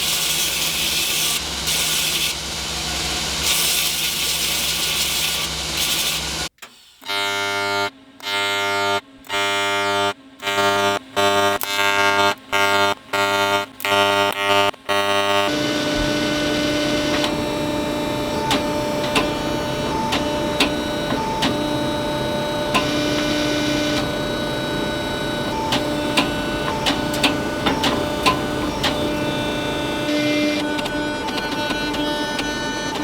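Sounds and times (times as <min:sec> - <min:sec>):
machine hum with tones: 0:00.1 - 0:33.0.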